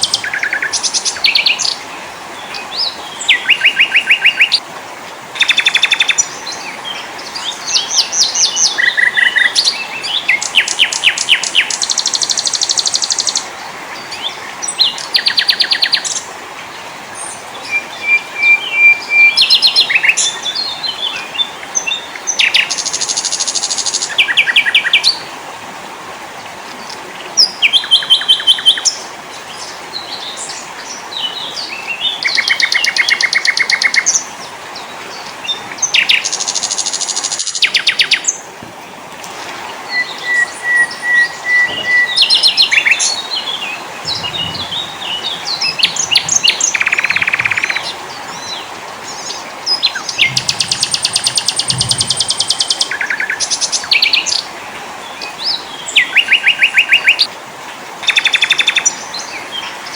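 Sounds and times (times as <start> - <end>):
songbirds trilling: 0.0 - 4.6, 5.4 - 25.3, 26.7 - 57.3, 58.0 - 59.9
steady background hiss: 0.0 - 59.9.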